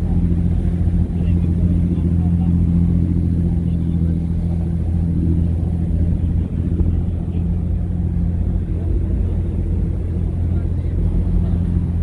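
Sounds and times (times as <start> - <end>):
ferry engine droning: 0.0 - 12.0.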